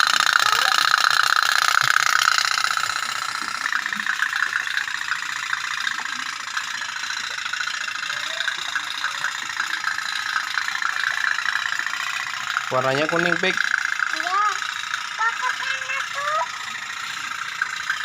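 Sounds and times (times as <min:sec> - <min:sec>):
toy boat engine putting: 0:00.0 - 0:18.0.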